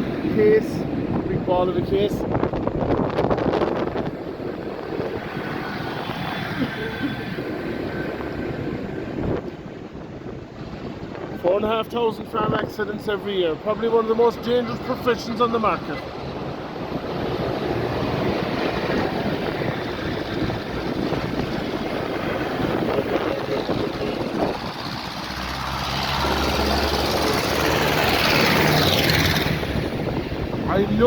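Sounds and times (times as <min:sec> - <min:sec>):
tractors driving past: 0:03.2 - 0:31.0.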